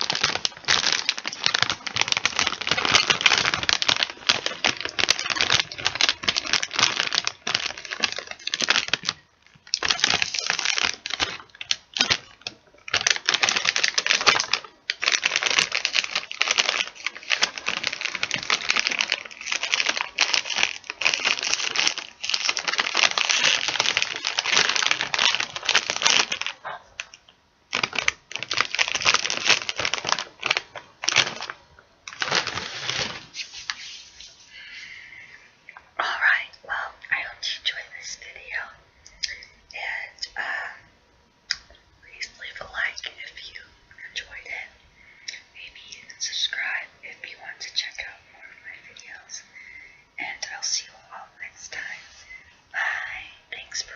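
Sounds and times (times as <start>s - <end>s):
plastic chip bag crinkling: 0.0s - 40.8s, 41.5s - 53.9s.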